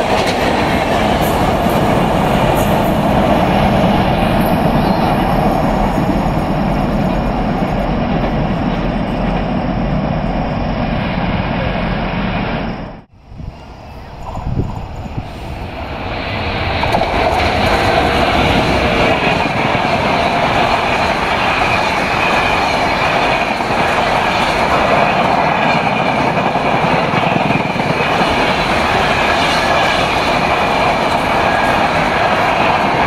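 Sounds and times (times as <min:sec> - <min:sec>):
train passing at high speed: 0:00.0 - 0:33.0.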